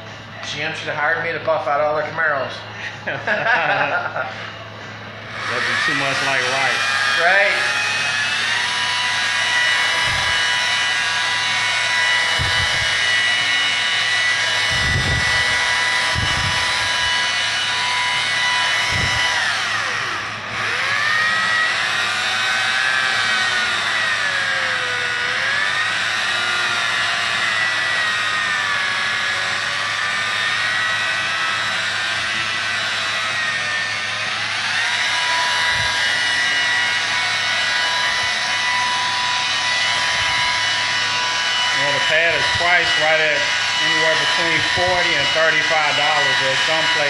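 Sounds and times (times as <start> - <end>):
electric polisher motor whine: 2.6 - 47.0.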